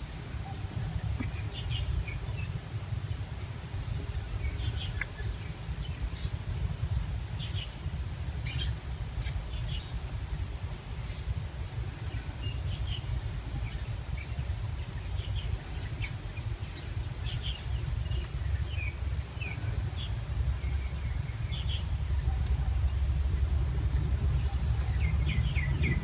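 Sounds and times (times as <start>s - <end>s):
low rumble: 0.0s - 26.0s
small birds chirping: 0.3s - 26.0s.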